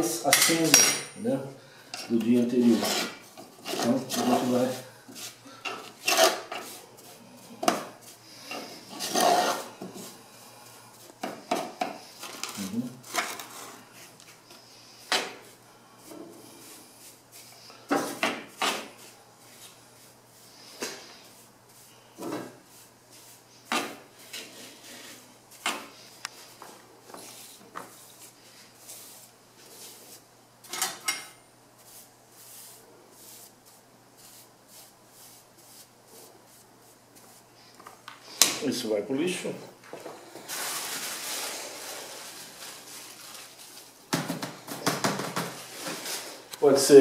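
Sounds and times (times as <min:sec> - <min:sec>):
paintbrush brushing and scraping: 0:02.1 - 0:38.4, 0:40.4 - 0:44.0.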